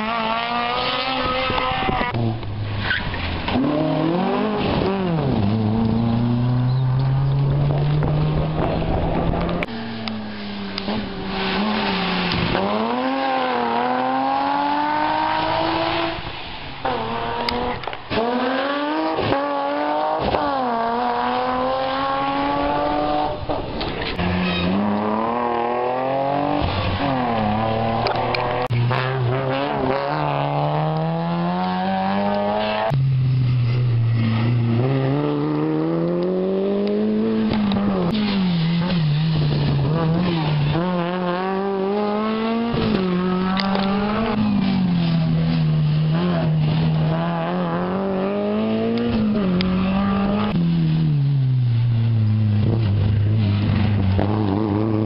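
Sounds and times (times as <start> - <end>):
rally car engines at full throttle: 0.0 - 55.0.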